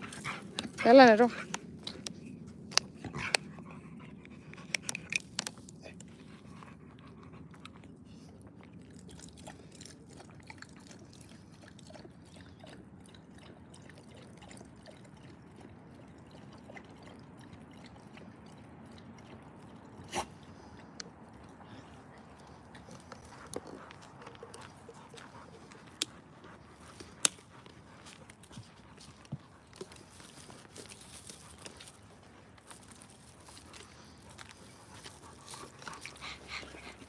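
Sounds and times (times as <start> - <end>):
dog lapping water: 0.0 - 37.0.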